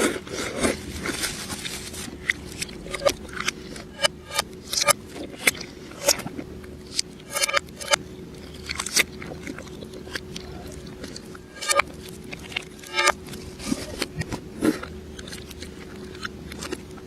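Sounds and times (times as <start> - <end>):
crisp crunching and chewing: 0.0 - 17.0
faint steady hum: 0.0 - 17.0.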